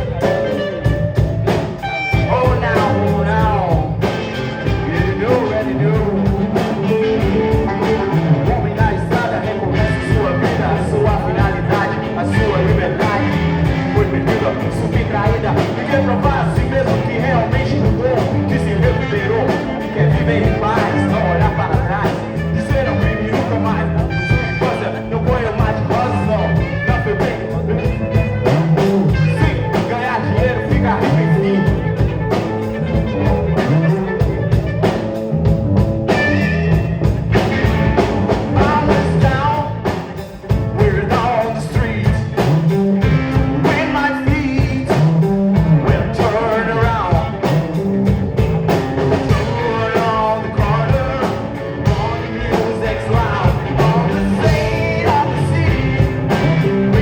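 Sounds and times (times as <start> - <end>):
person singing: 0.0 - 35.1, 36.1 - 57.0
rock band playing live: 0.0 - 57.0.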